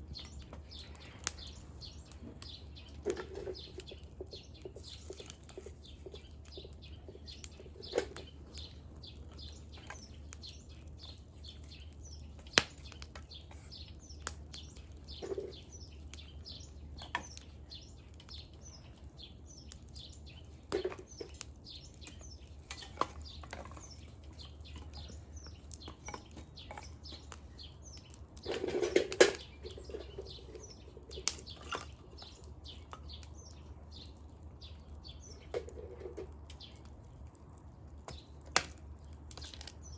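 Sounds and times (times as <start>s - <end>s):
sharp pops of burning wood: 0.0s - 39.9s
wood fire crackling: 0.0s - 39.9s.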